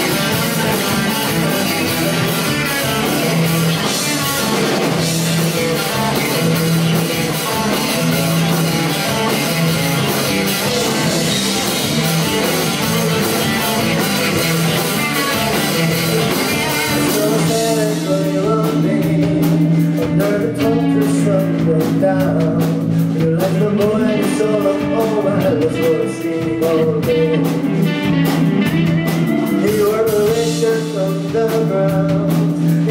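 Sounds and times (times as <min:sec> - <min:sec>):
rock band playing live: 0:00.0 - 0:32.9.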